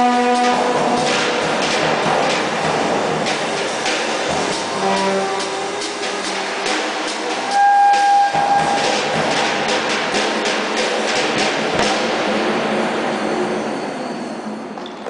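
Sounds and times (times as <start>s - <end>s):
drum and cymbal hits: 0.0s - 13.2s.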